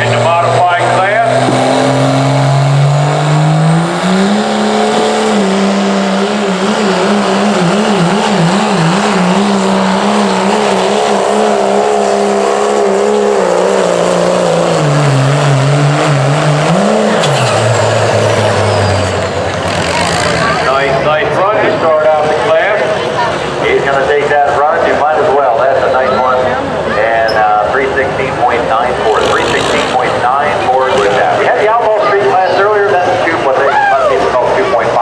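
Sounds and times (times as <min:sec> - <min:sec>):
diesel pickup engine under load: 0:00.0 - 0:35.0.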